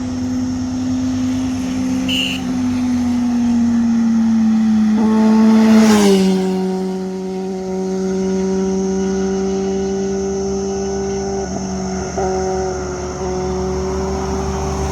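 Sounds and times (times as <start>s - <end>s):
vehicle engine passing by: 0.0s - 14.9s.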